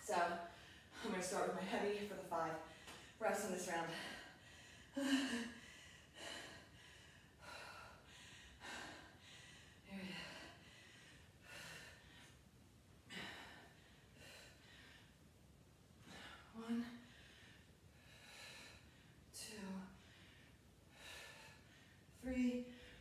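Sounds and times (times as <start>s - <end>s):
woman breathing hard: 0.1s - 3.2s, 3.8s - 23.0s.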